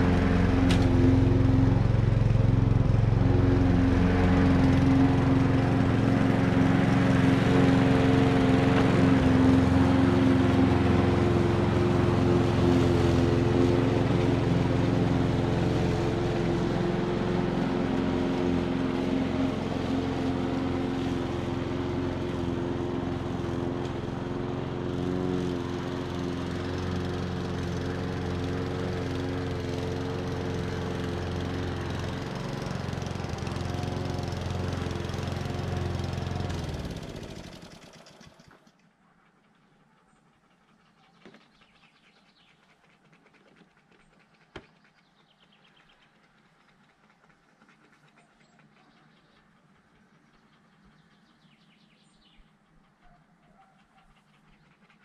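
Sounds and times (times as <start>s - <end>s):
lawn mower running: 0.0s - 55.0s.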